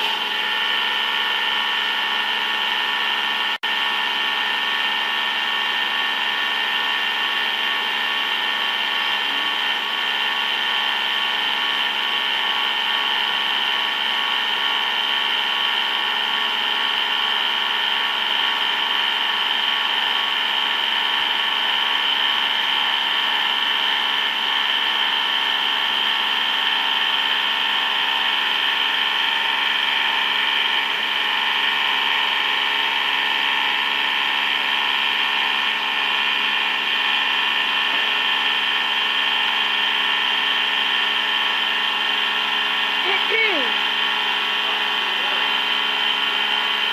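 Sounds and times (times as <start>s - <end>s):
machine tool high whine: 0.0s - 46.9s.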